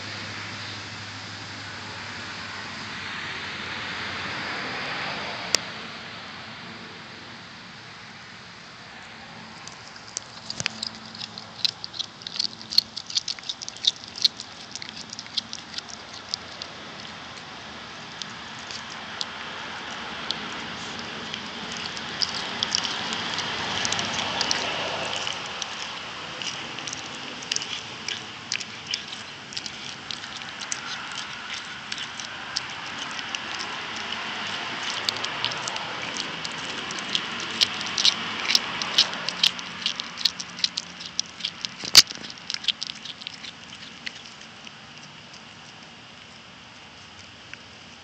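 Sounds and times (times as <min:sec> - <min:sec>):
cat crunching a chicken wing: 0:09.5 - 0:48.0.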